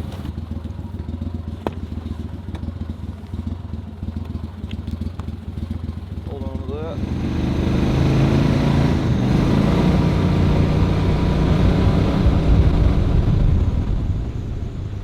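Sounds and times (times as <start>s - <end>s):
vehicle engine low rumble: 0.0s - 15.0s.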